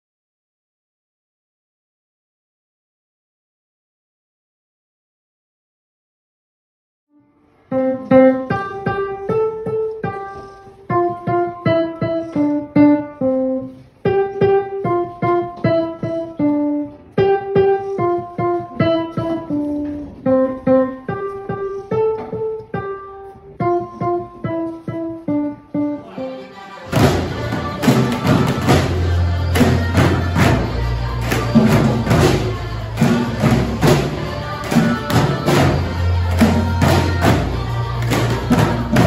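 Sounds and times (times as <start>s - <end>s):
digital piano melody: 7.6s - 39.0s.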